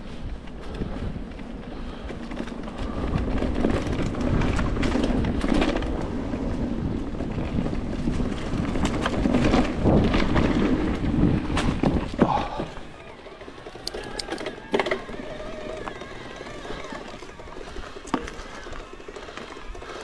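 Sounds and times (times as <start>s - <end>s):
tyres rumbling on trail: 0.0s - 20.0s
wind buffeting microphone: 0.0s - 20.0s
bike rattling and knocking: 0.3s - 20.0s.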